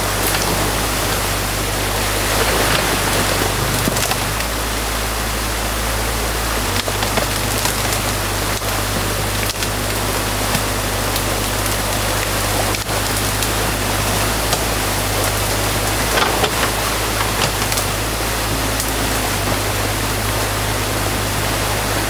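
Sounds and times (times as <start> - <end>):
excavator diesel engine hum: 0.0 - 22.0
water rushing through dam: 0.0 - 22.0.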